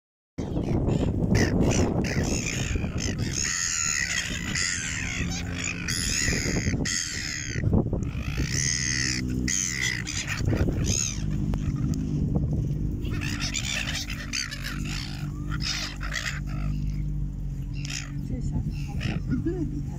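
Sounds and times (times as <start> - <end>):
gulls squawking: 0.4 - 19.9.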